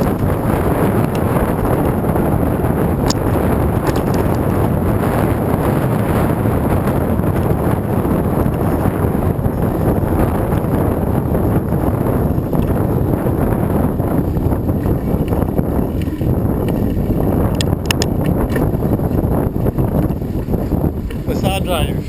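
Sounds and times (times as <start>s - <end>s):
vehicle noise: 0.0s - 21.8s
wind buffeting microphone: 0.0s - 22.0s.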